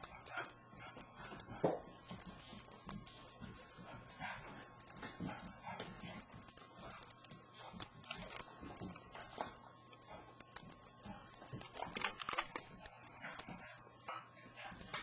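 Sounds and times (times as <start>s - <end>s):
puppy paws and claws scuffling: 0.0s - 15.0s.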